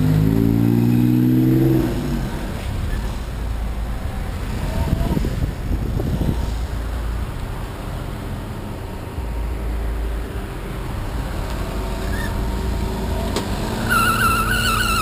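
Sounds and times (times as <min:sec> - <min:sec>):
vehicle rumbling along road: 0:00.0 - 0:15.0.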